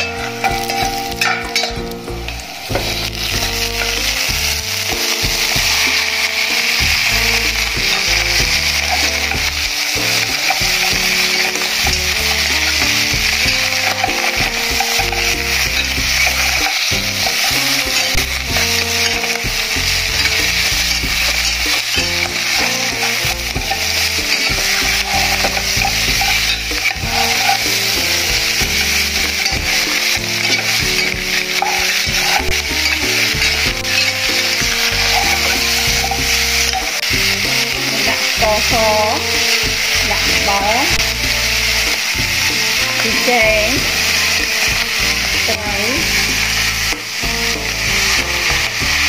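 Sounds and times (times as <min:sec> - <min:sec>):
meat sizzling in a pot: 0:00.0 - 0:49.0
metal spoon stirring pot: 0:00.0 - 0:49.0.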